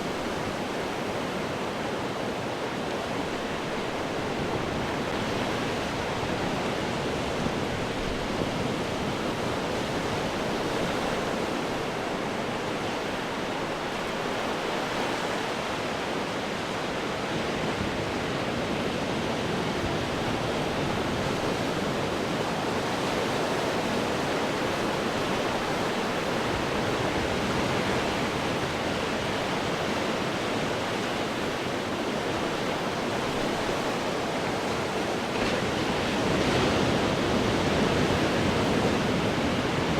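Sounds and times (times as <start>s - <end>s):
ocean surf washing against rocks: 0.0s - 39.9s.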